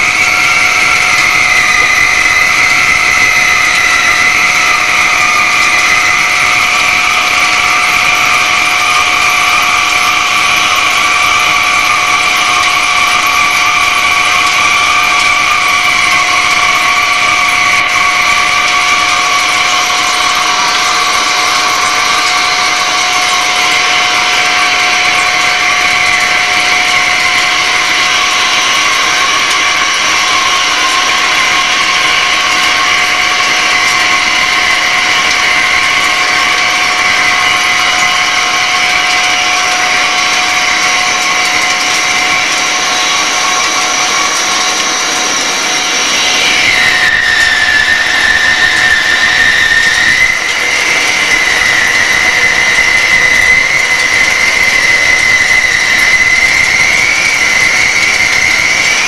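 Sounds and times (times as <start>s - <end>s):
lathe cutting steel wheel: 0.0s - 59.0s.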